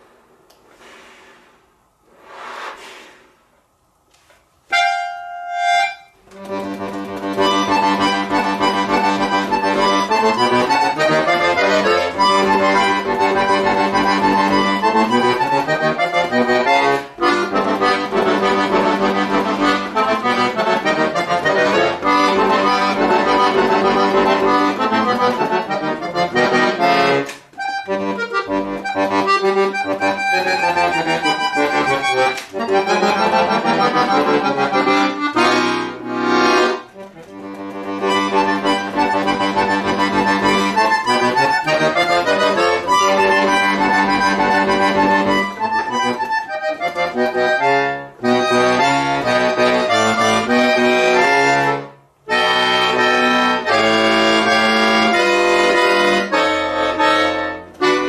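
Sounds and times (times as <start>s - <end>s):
button accordion playing: 4.6s - 58.0s.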